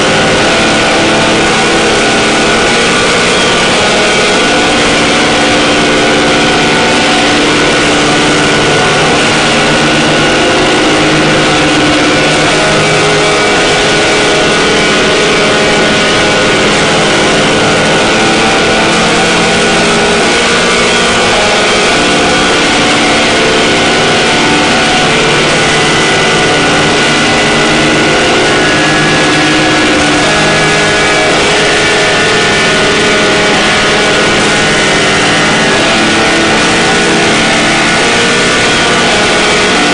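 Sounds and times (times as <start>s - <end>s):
harsh noise drone music: 0.0s - 39.9s.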